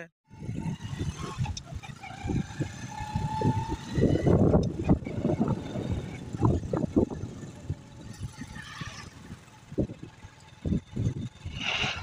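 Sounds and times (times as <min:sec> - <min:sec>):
tractor engine rumble: 0:01.2 - 0:12.0.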